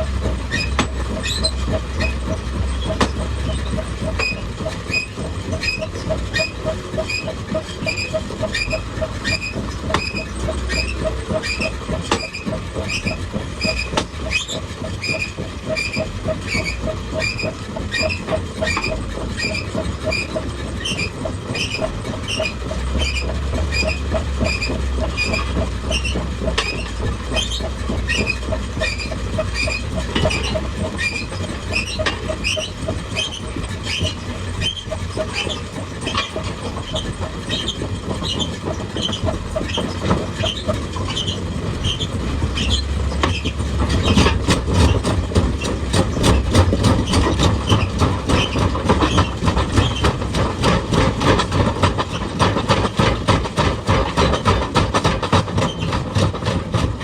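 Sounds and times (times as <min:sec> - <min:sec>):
excavator engine rumbling: 0:00.0 - 0:57.0
metal tracks squeaking and clanking: 0:00.0 - 0:57.0.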